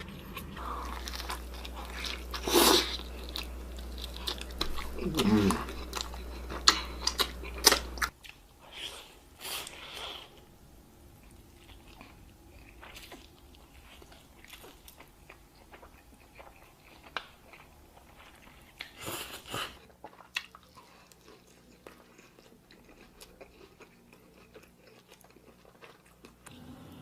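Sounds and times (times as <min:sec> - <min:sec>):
person chewing food: 0:00.0 - 0:10.5, 0:11.2 - 0:26.6.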